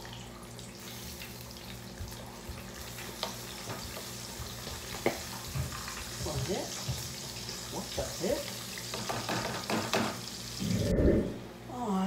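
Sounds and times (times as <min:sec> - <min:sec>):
fish frying sizzle: 0:00.0 - 0:10.6.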